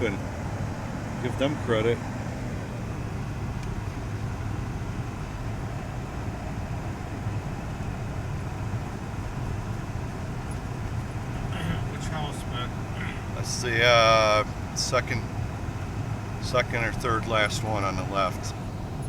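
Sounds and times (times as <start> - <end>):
vehicle engine and road drone: 0.0 - 19.0.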